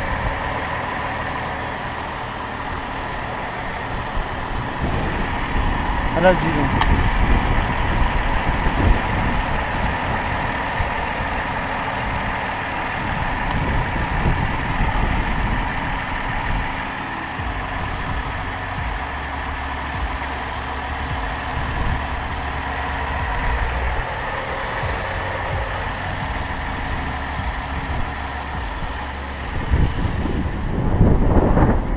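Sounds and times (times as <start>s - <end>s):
car engine idling: 0.0s - 31.9s
wind buffeting microphone: 0.0s - 31.9s.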